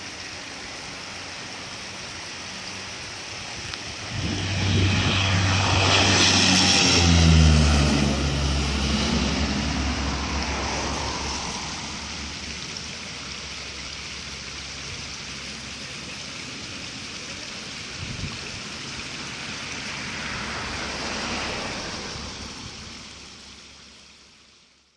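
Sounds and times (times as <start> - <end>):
propeller aircraft passing: 0.0 - 24.0.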